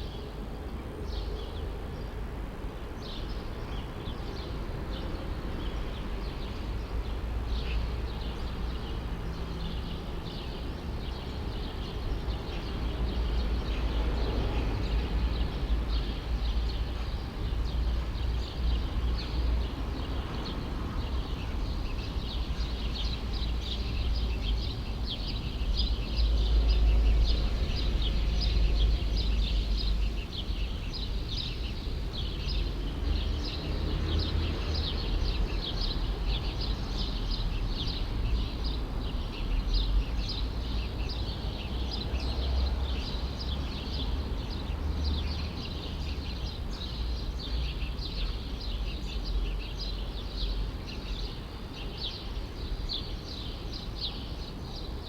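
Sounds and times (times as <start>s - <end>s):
low rumble of city: 0.0s - 55.0s
small birds chirping: 2.9s - 55.0s.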